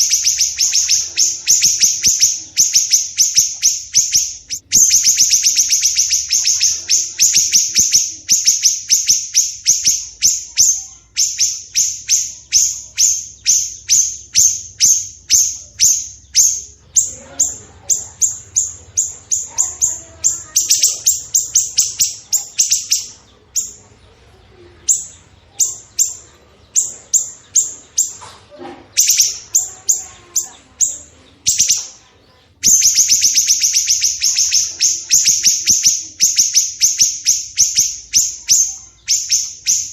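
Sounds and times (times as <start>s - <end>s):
lower bird chattering: 0.0s - 39.9s
rapid high bird chirps: 0.0s - 39.9s.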